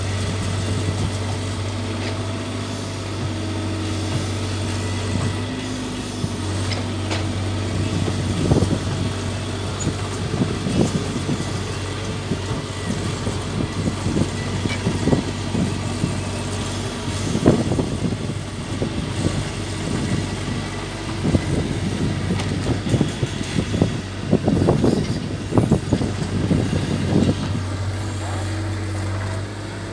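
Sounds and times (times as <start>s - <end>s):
excavator diesel engine under load: 0.0s - 29.9s.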